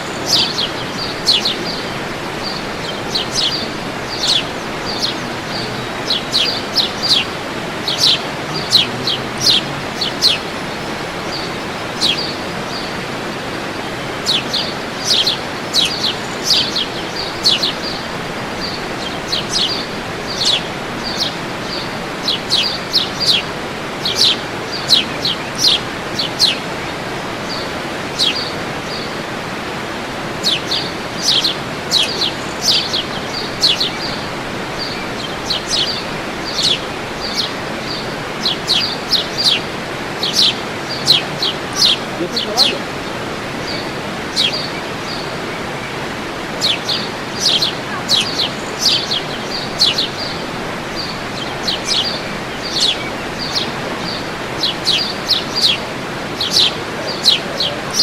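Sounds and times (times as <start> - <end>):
birds chirping: 0.0 - 58.0
steady rushing noise: 0.0 - 58.0.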